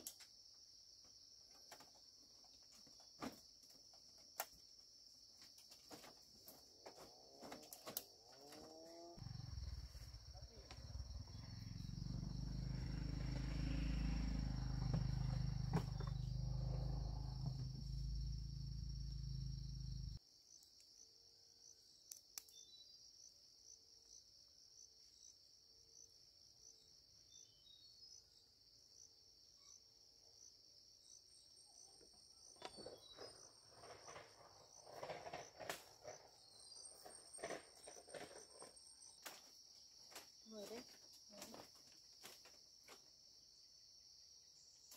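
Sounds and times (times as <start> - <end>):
insects chirring: 0.0 - 29.8, 30.4 - 44.9.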